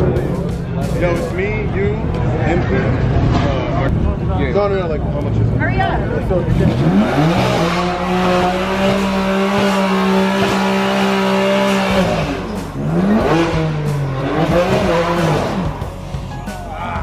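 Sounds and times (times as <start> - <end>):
car engine revving: 0.0 - 16.5.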